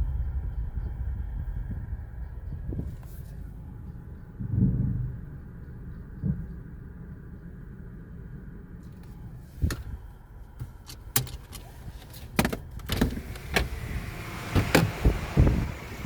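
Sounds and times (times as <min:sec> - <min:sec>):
low machinery rumble: 0:00.0 - 0:16.0.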